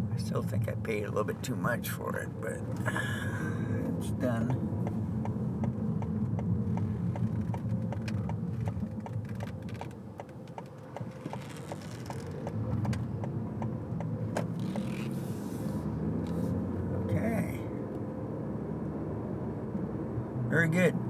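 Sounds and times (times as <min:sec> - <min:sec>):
vehicle cabin rumble: 0:00.0 - 0:21.0.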